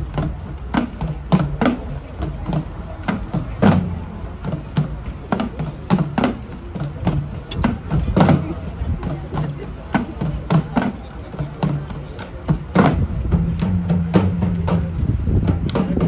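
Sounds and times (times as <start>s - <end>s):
crowd noise: 0.0s - 16.0s
drums beaten fast: 0.0s - 16.0s.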